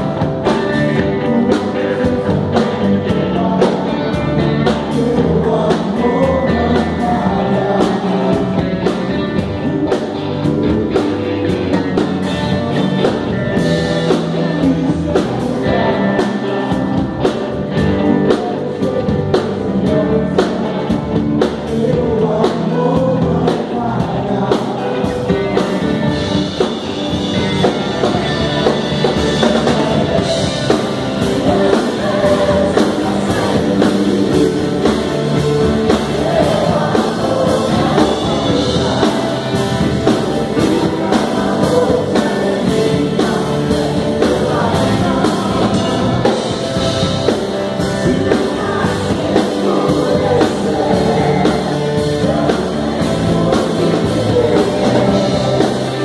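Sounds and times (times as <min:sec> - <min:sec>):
drum kit: 0:00.0 - 0:56.0
singers singing together: 0:00.0 - 0:56.0
worship band playing rock: 0:00.0 - 0:56.0.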